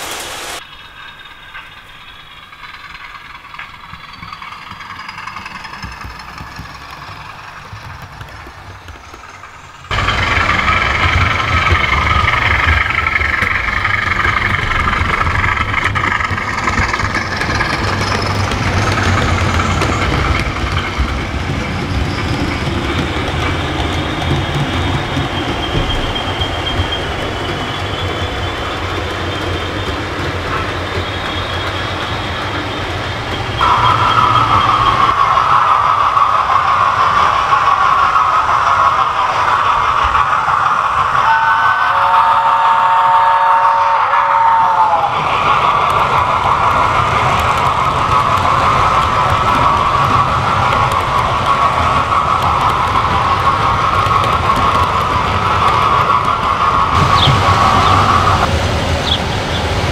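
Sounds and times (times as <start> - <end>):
model train wheels clicking: 0.0 - 59.2.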